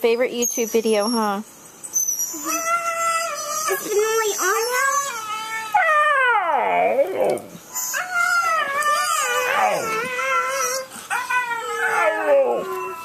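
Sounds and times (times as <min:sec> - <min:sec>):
husky howling: 0:02.4 - 0:13.0.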